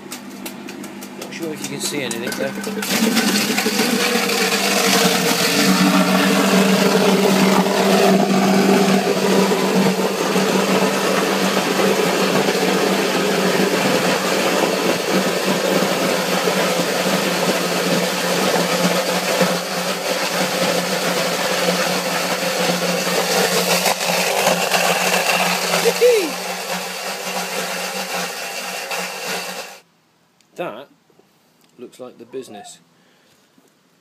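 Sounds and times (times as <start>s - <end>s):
apples grinding: 0.0s - 29.8s
motor hum: 0.0s - 29.8s.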